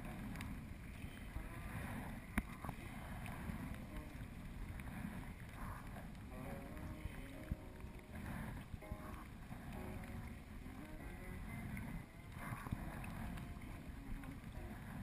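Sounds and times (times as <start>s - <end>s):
paddle splashing: 0.0s - 15.0s
water slapping hull: 0.0s - 15.0s
wind rumble on microphone: 0.0s - 15.0s.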